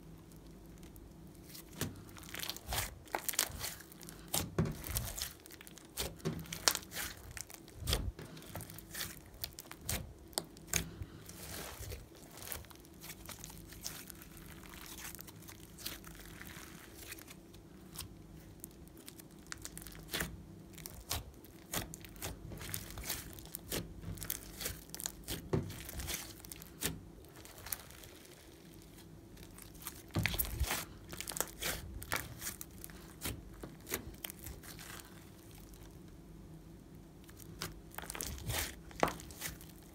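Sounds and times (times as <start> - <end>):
slime squelching and popping: 0.2 - 36.0, 37.2 - 39.9.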